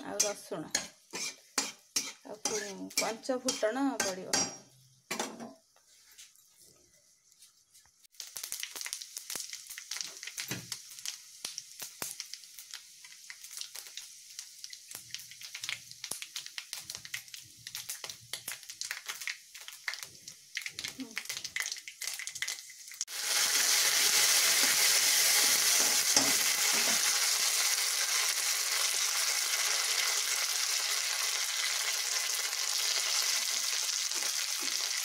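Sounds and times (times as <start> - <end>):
spices crackling in hot oil: 0.0 - 35.0.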